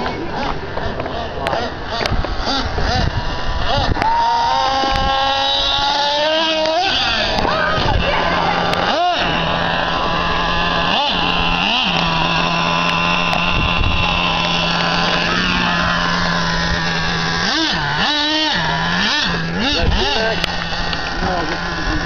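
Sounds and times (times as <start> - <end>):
nitro engine running and revving: 0.0 - 22.0.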